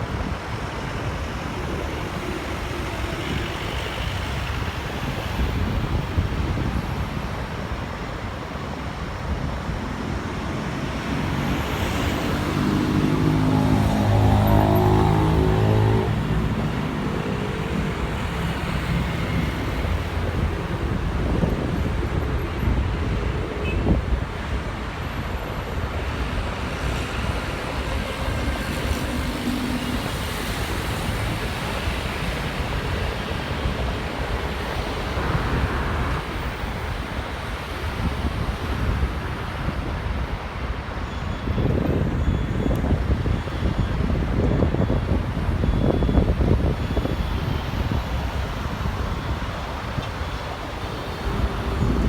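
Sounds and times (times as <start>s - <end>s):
jet engines rumbling: 0.0s - 52.0s
wind buffeting microphone: 0.0s - 52.0s.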